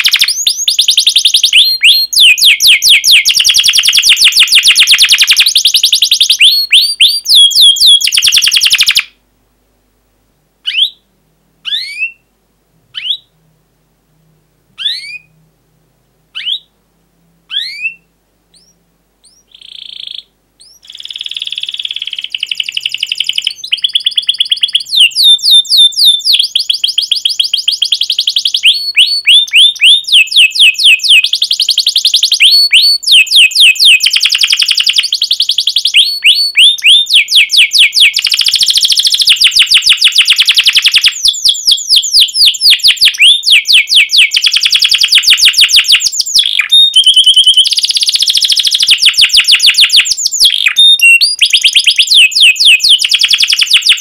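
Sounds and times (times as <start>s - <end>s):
canary chirps: 0.0s - 9.2s, 10.6s - 12.3s, 12.9s - 13.4s, 14.7s - 15.5s, 16.3s - 16.8s, 17.5s - 54.0s
canary trilling: 0.0s - 9.2s, 10.6s - 12.3s, 12.9s - 13.4s, 14.8s - 15.4s, 16.3s - 16.8s, 17.5s - 54.0s.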